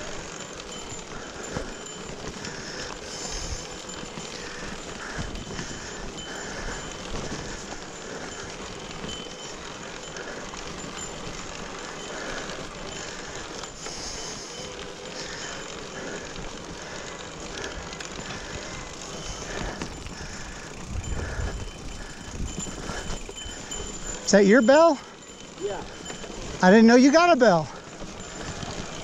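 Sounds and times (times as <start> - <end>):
bike tyres rolling on dirt: 0.0 - 29.0.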